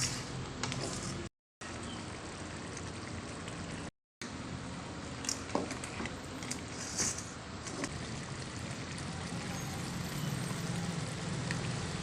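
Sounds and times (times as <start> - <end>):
pot bubbling on stove: 1.6 - 12.0.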